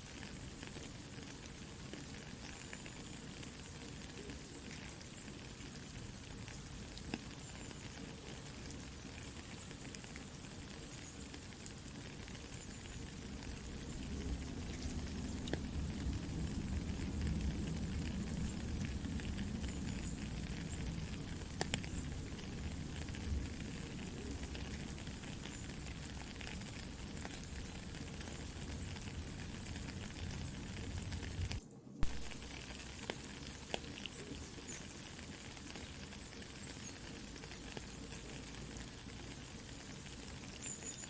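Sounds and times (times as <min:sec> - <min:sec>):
campfire crackling: 0:00.0 - 0:41.0
soft rain falling: 0:00.0 - 0:41.0.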